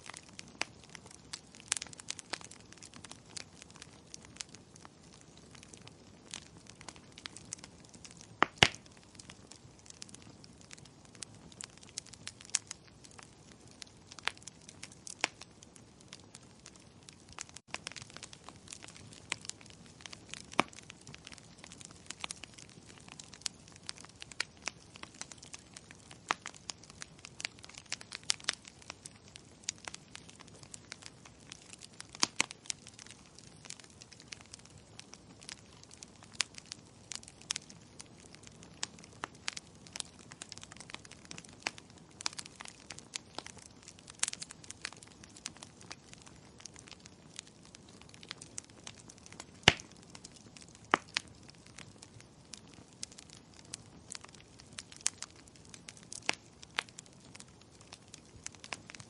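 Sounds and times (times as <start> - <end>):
soft steady hiss: 0.0 - 59.0
wood fire crackling: 0.0 - 59.0.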